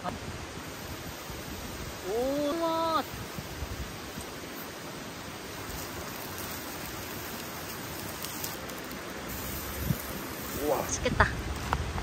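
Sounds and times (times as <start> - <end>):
meat sizzling on hot stones: 0.6 - 11.7.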